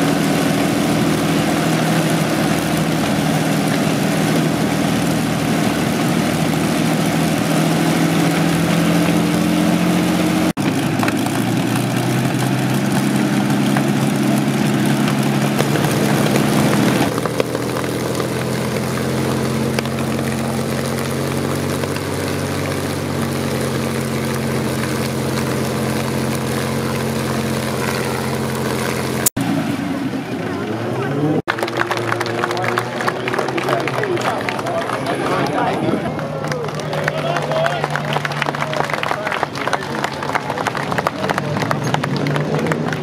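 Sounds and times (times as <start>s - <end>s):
aero engine running: 0.0s - 43.0s.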